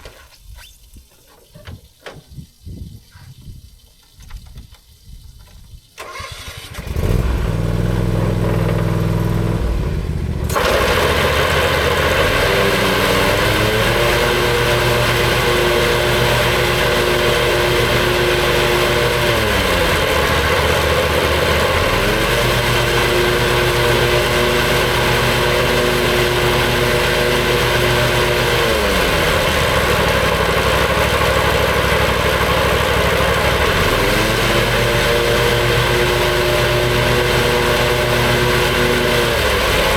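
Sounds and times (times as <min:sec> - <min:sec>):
lawn mower engine: 0:03.8 - 0:39.9.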